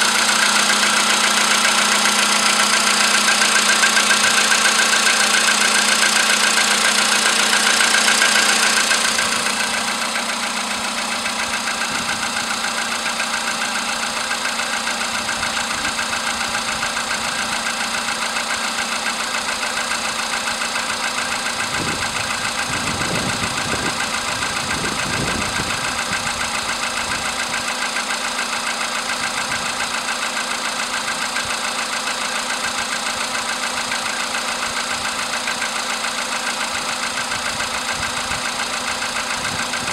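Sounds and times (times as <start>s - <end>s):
car engine idling with knock: 0.0s - 39.9s.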